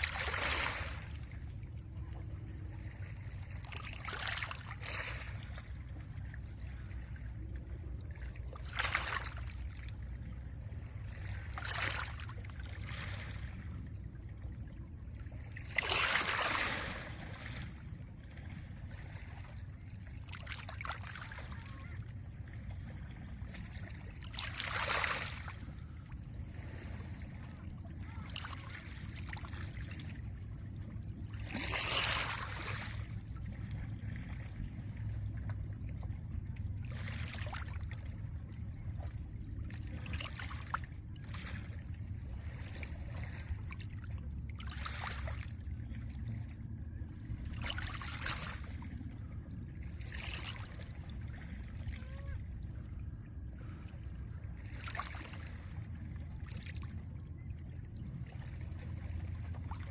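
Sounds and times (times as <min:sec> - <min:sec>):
low rumble of wind: 0:00.0 - 0:59.9.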